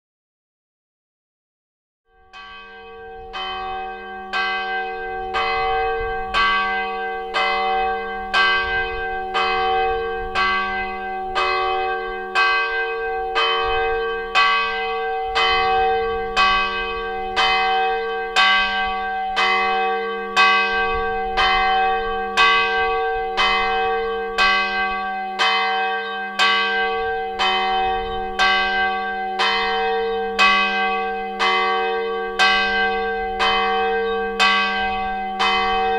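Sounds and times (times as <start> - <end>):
church bell tolling: 2.1 - 35.9.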